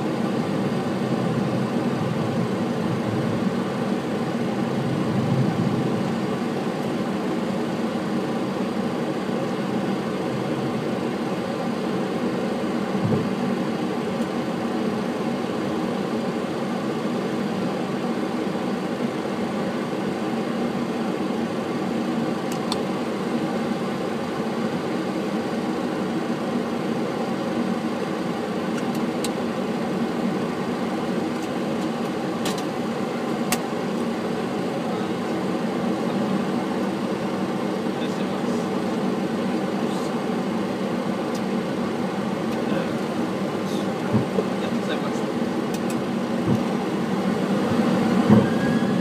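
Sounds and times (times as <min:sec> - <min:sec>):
aircraft engine drone: 0:00.0 - 0:49.0.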